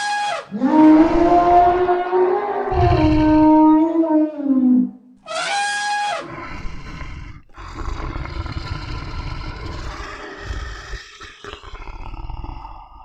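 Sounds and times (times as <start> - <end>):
deep dinosaur roar: 0.5 - 4.9, 6.3 - 13.0.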